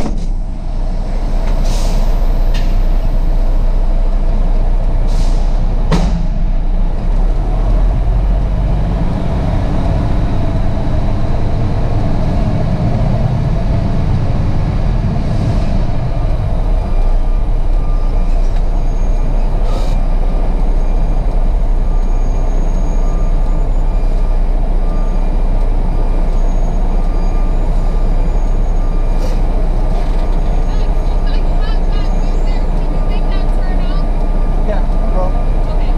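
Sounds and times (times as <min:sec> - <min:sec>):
truck diesel engine drone: 0:00.0 - 0:35.9.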